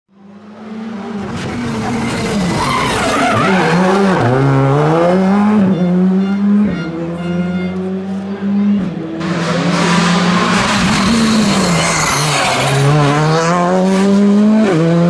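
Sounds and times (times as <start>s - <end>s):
rally car engine revving: 0.2s - 15.0s
tyres skidding: 0.8s - 15.0s.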